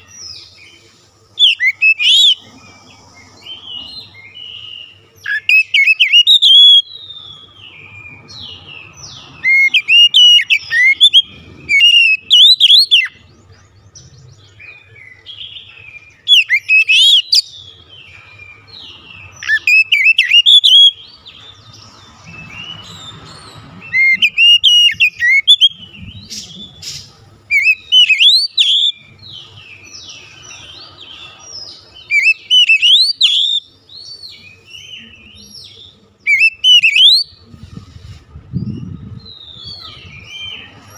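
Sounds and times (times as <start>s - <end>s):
bird singing whistles and chirps: 0.0s - 2.5s, 3.2s - 37.5s, 38.5s - 40.9s.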